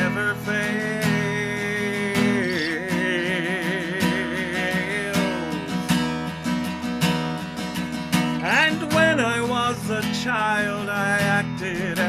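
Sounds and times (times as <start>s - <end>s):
person singing with vibrato: 0.0s - 6.5s, 8.4s - 12.0s
strummed acoustic guitar: 0.0s - 12.0s.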